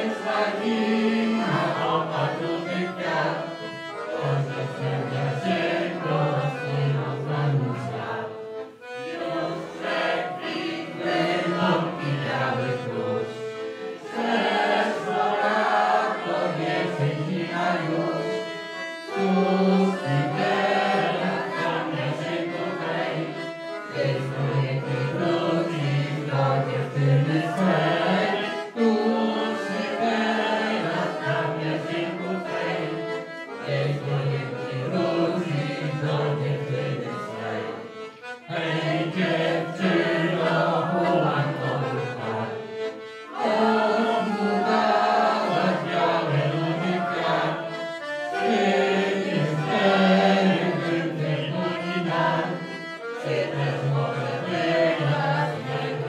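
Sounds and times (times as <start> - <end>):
accordion: 0.0 - 56.0
group of voices singing: 0.0 - 56.0.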